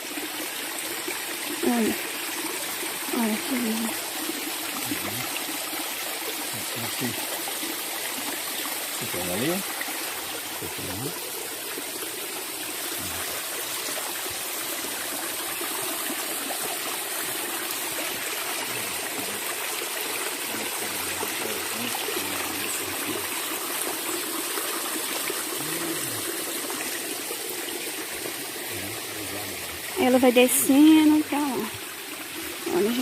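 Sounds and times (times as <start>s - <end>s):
water flowing over rocks: 0.0s - 33.0s.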